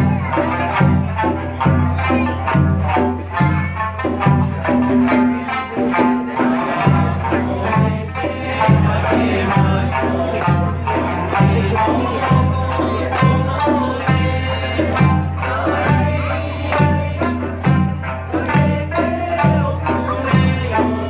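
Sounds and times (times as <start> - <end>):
plucked lutes playing folk music: 0.0 - 21.0.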